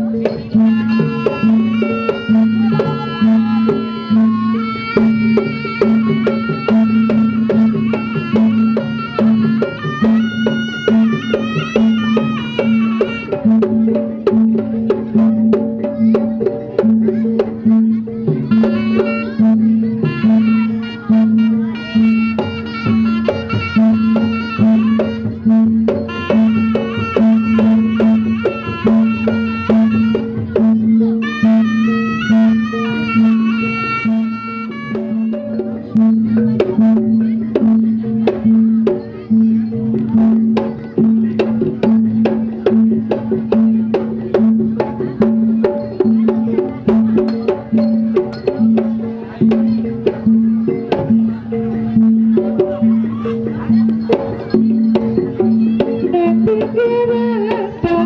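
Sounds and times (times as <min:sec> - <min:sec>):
drum and percussion beat: 0:00.0 - 0:58.0.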